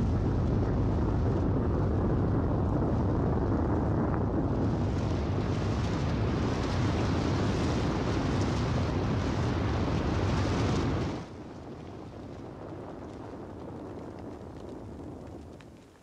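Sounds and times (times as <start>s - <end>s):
avalanche rumbling: 0.0s - 16.0s.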